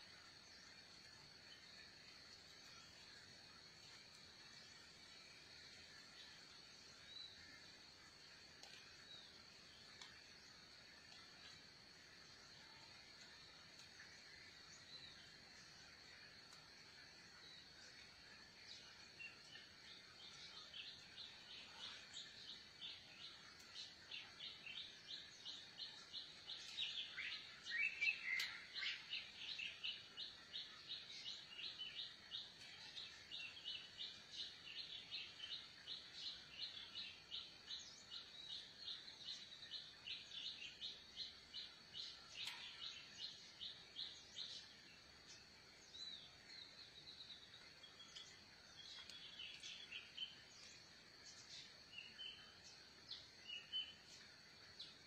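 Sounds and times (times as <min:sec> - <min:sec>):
bird chirping: 0:00.0 - 0:55.0
faint high-pitched whine: 0:00.0 - 0:55.0.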